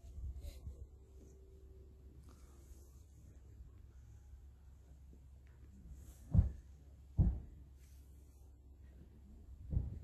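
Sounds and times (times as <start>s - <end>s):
faint low rumble: 0.0s - 10.0s.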